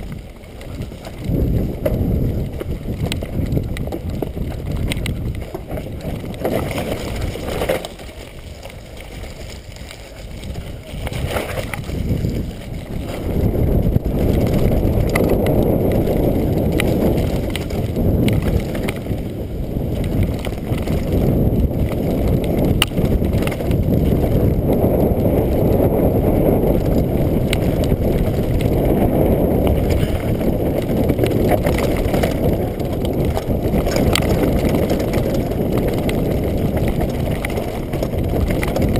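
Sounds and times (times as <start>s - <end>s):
bike clicks: 0.0s - 38.9s
bike tyres rolling on dirt: 0.0s - 38.9s
wind buffeting microphone: 0.0s - 38.9s.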